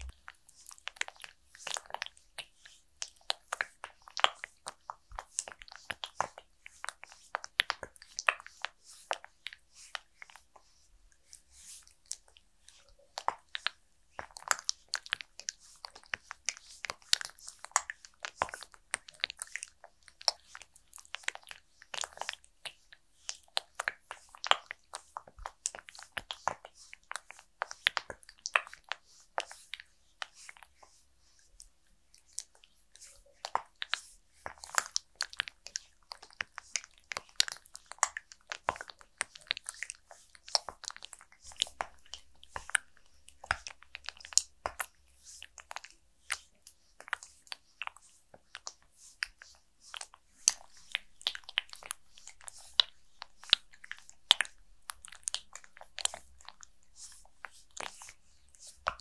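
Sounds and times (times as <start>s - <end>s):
wet sticky clicks of massaging: 0.0s - 59.0s.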